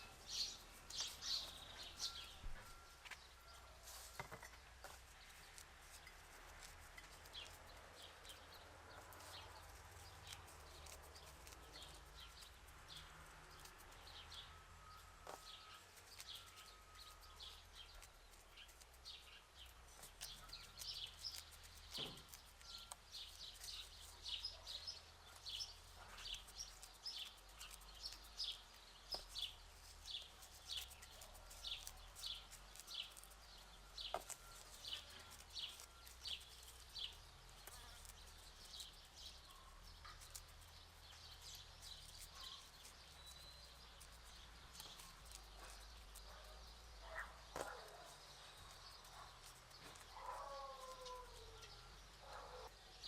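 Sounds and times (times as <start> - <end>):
faint birds chirping: 0.0 - 53.0.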